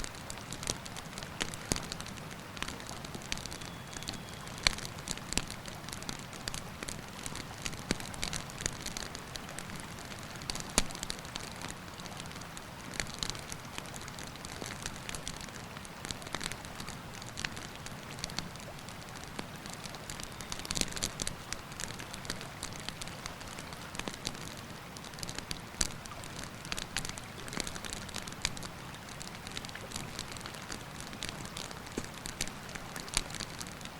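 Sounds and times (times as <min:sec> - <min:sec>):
campfire crackling: 0:00.0 - 0:33.9
river flowing: 0:00.0 - 0:33.9.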